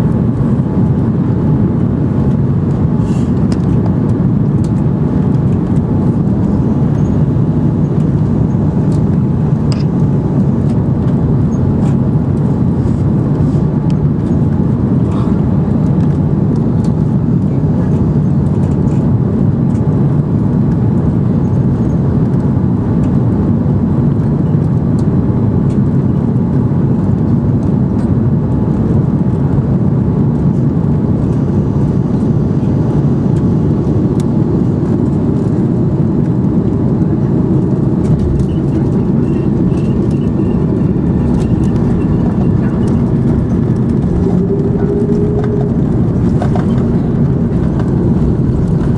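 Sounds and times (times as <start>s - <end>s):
airliner cabin rumble: 0.0s - 48.9s.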